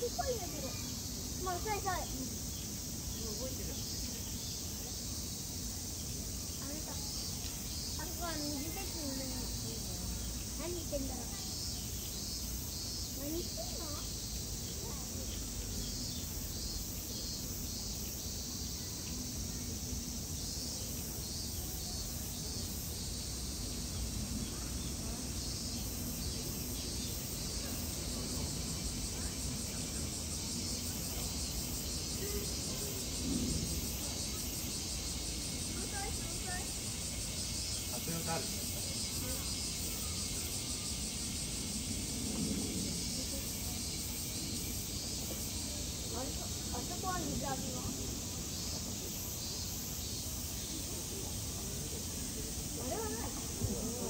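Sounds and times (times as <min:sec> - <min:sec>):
cicadas shrilling: 0:00.0 - 0:54.0
high hiss: 0:00.0 - 0:54.0.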